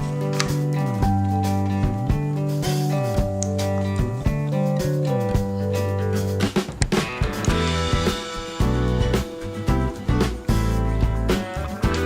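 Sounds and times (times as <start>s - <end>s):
bass and guitar notes: 0.0s - 12.0s
steady drum beat: 1.8s - 12.0s.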